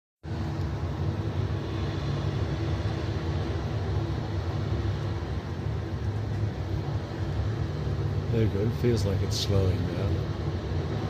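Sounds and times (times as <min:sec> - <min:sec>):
air conditioning units droning: 0:00.2 - 0:11.0.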